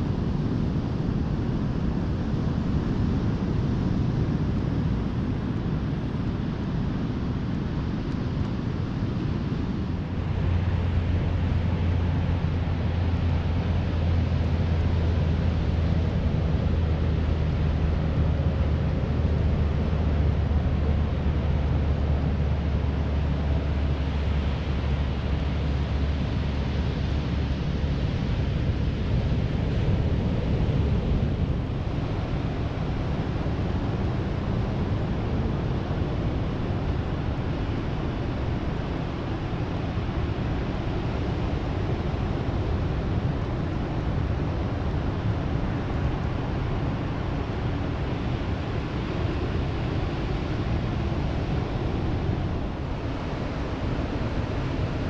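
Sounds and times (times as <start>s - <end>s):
wind rushing over microphone: 0.0s - 55.0s
low motor hum: 7.8s - 55.0s.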